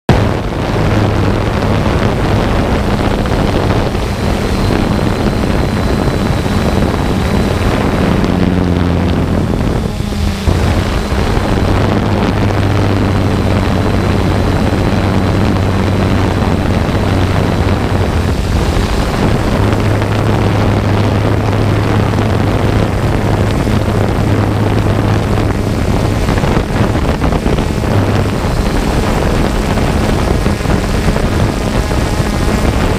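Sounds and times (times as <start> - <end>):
drone motors humming: 0.1 - 32.9
wind noise: 0.1 - 32.9.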